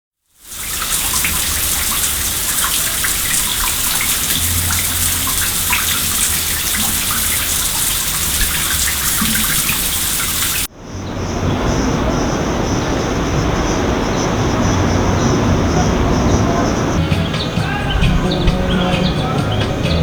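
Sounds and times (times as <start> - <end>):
rushing water: 0.3 - 20.0.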